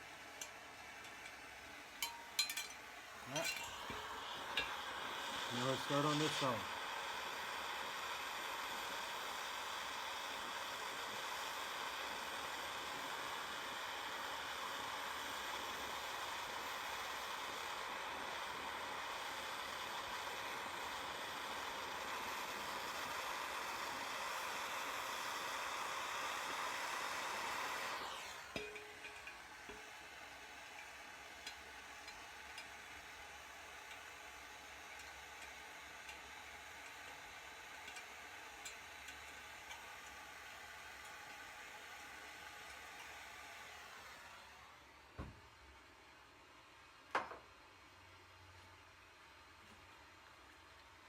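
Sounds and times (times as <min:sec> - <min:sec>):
gas torch flame hissing: 0:00.0 - 0:45.3.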